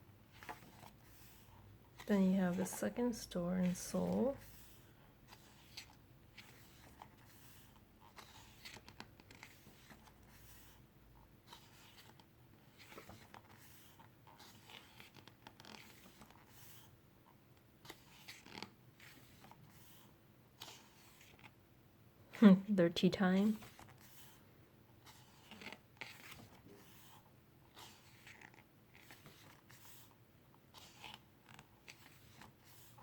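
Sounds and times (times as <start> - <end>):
book pages turning: 0.3 - 10.8, 11.4 - 17.0, 17.6 - 21.6, 23.4 - 24.4, 25.0 - 33.0.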